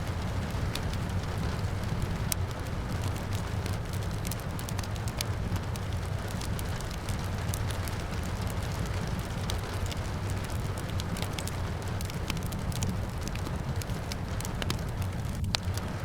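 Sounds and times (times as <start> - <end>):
rain falling: 0.0 - 16.0
wood fire crackling and popping: 0.0 - 16.0.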